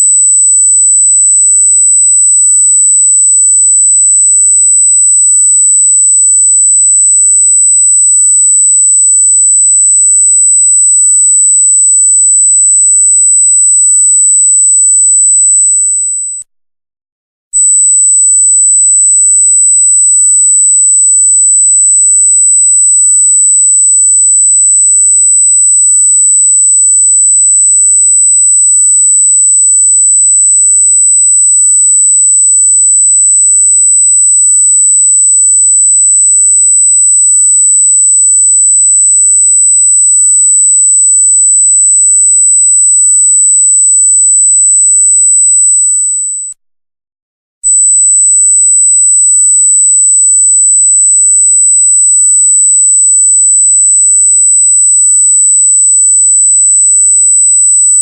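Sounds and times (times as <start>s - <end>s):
high-pitched sine tone: 0.0s - 16.5s, 17.6s - 46.6s, 47.6s - 58.0s.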